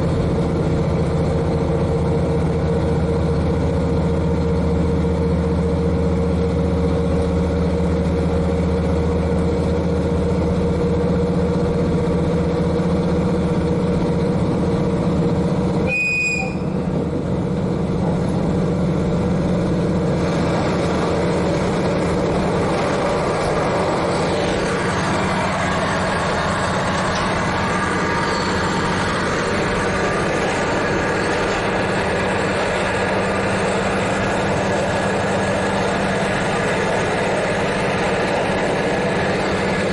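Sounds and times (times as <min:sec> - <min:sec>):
diesel engine running: 0:00.0 - 0:39.9
train wheel and rail noise: 0:00.0 - 0:39.9.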